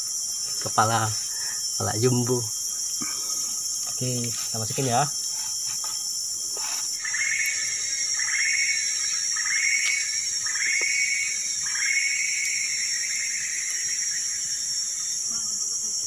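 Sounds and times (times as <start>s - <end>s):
forest insects droning: 0.0s - 16.0s.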